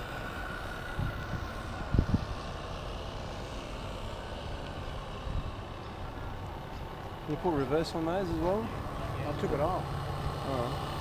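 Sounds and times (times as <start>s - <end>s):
steam engine drone: 0.0s - 11.0s.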